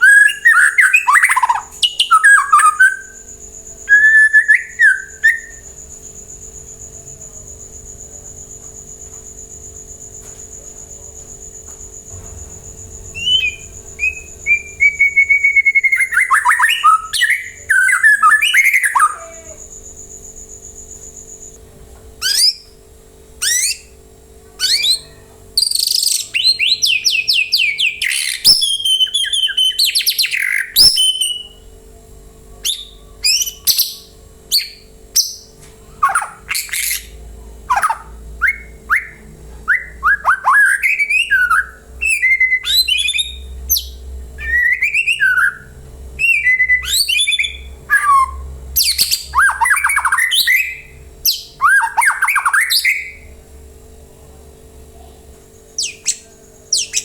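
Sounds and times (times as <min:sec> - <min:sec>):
bird singing whistles and trills: 0:00.0 - 0:08.6, 0:12.2 - 0:21.6, 0:22.2 - 0:22.8, 0:23.4 - 0:24.0, 0:24.6 - 0:31.7, 0:32.6 - 0:53.4, 0:55.7 - 0:57.0.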